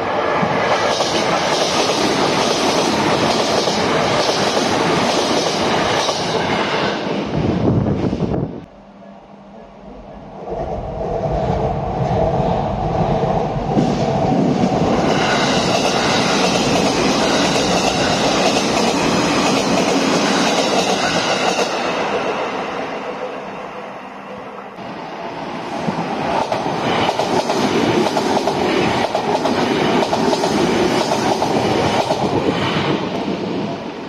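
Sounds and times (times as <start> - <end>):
train passing: 0.0 - 34.0.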